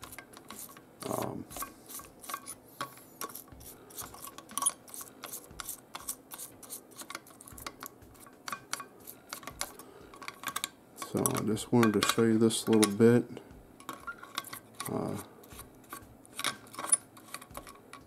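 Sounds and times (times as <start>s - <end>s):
toothbrush scrubbing metal: 0.0s - 2.6s, 3.2s - 13.0s, 14.0s - 18.0s.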